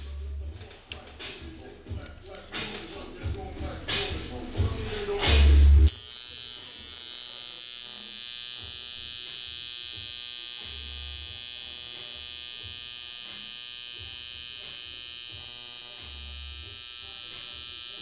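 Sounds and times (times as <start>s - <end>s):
tattoo machine buzzing: 3.0s - 18.0s.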